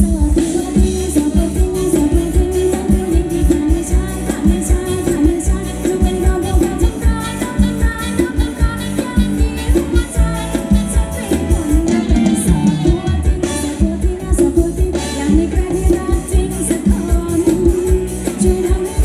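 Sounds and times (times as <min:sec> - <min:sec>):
driving drum beat: 0:00.0 - 0:19.0
live dance band playing: 0:00.0 - 0:19.0
person singing: 0:00.0 - 0:19.0.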